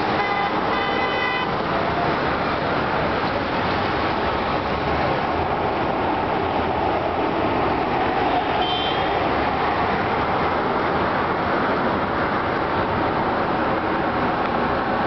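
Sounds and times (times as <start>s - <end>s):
cars passing: 0.0s - 15.0s.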